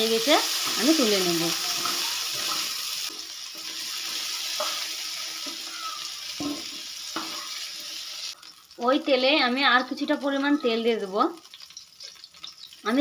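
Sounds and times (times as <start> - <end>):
cauliflower sizzling in hot oil: 0.0 - 13.0.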